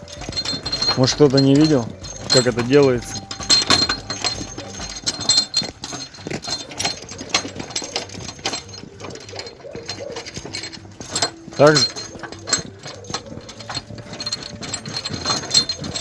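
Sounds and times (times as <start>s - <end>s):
irregular mechanical clattering: 0.0s - 16.0s.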